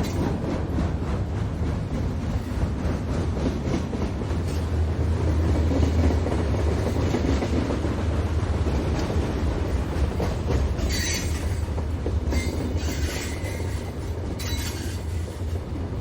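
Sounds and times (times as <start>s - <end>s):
freight train rumbling past: 0.0s - 16.0s
wheels clacking over rails: 0.0s - 16.0s.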